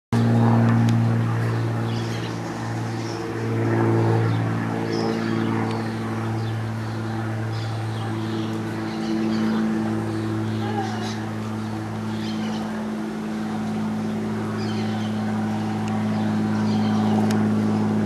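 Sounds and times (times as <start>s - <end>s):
low mechanical hum: 0.2s - 18.0s.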